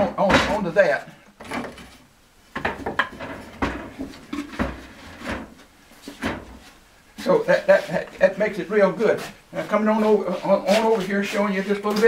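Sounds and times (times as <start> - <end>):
wood knocking and scraping wood: 0.0 - 0.8, 1.4 - 12.0.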